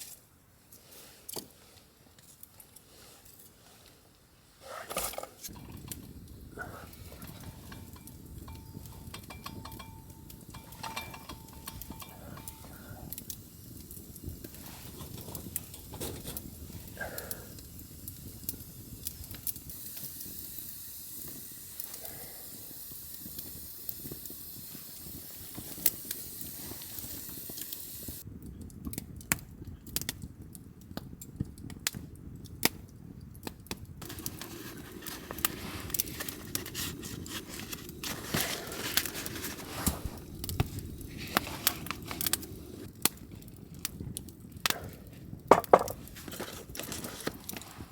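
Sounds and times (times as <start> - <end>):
steady sizzling hiss: 0.0 - 28.4, 33.9 - 47.9
campfire crackling and popping: 5.4 - 47.9.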